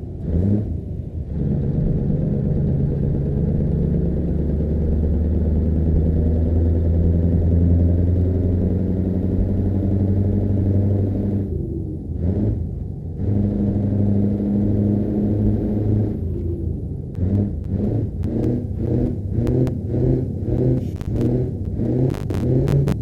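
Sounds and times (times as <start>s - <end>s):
truck engine exhaust drone: 0.0s - 23.0s.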